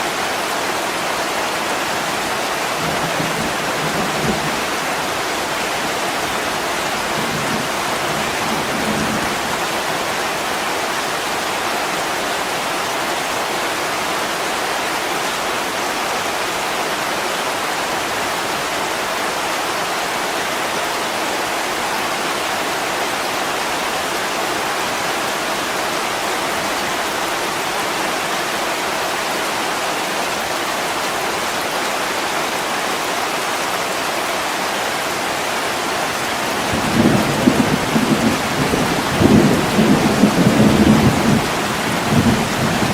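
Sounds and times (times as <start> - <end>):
heavy rain on a window: 0.0 - 42.9.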